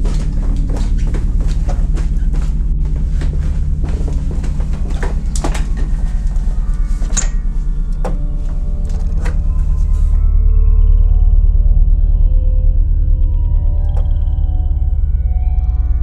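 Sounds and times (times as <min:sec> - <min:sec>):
low steady drone: 0:00.0 - 0:16.0.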